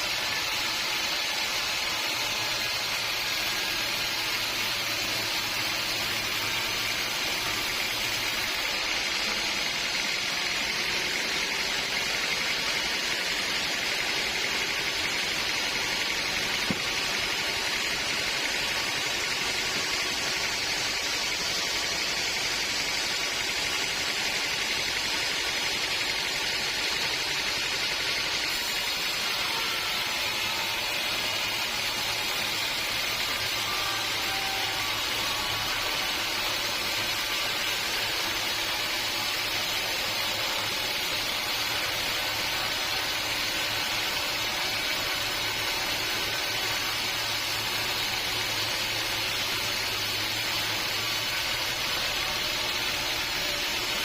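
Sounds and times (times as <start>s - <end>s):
machine hiss: 0.0s - 54.0s.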